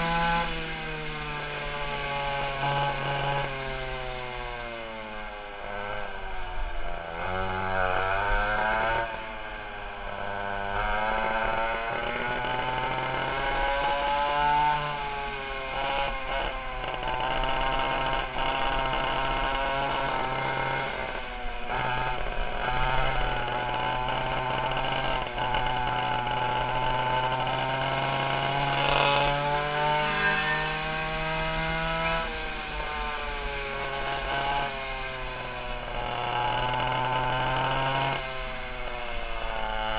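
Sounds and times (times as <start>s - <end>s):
go-kart two-stroke engines revving: 0.0s - 39.9s.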